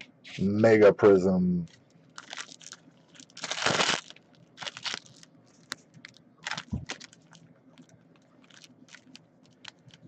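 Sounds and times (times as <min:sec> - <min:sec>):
foil wrapper crinkling: 0:01.7 - 0:10.0.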